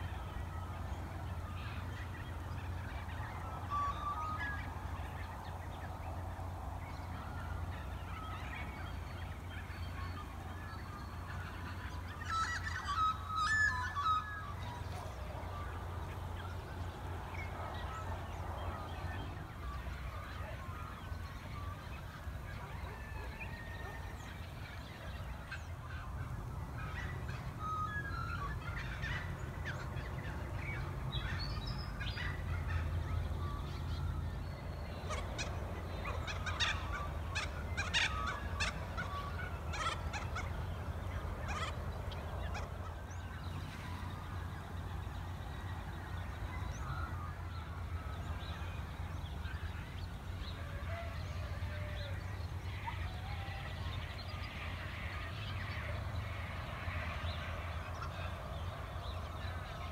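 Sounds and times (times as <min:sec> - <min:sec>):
birds calling: 0:06.9 - 0:56.1.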